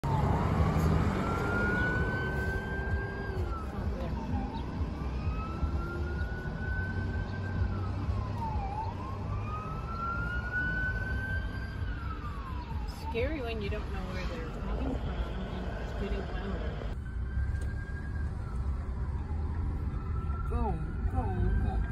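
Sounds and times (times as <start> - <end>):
low car rumble: 0.0 - 21.9
siren wailing: 0.0 - 21.9.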